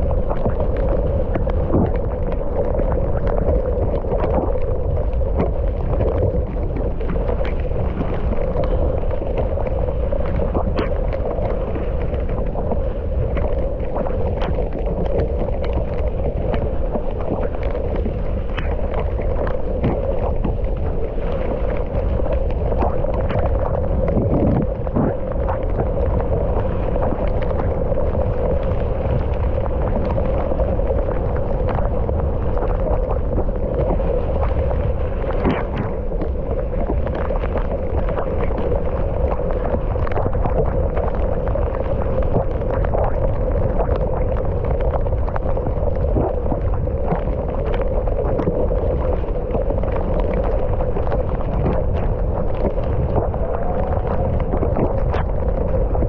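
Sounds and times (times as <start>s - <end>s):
bike tyres rolling rumble: 0.0s - 56.0s
wind rush over microphone: 0.0s - 56.0s.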